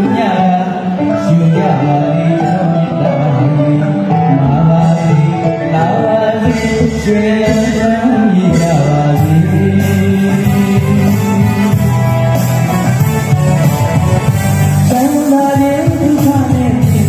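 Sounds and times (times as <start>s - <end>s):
man singing through microphone: 0.0s - 12.3s, 14.8s - 17.0s
bass line: 0.0s - 17.0s
drums and keyboard: 0.0s - 17.0s.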